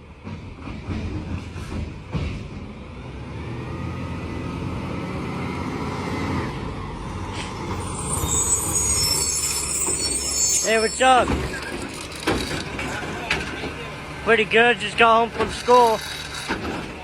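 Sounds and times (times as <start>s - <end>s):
diesel truck engine rumbling: 1.3s - 17.0s.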